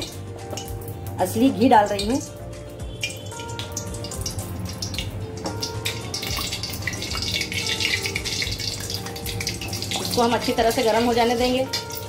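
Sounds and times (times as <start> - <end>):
ghee sizzling and crackling: 0.0 - 12.0.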